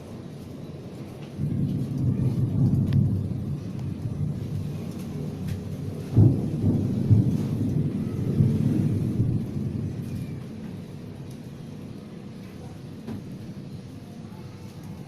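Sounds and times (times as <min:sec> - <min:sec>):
faint rain: 0:00.0 - 0:15.0
thunder rumbling: 0:00.7 - 0:15.0.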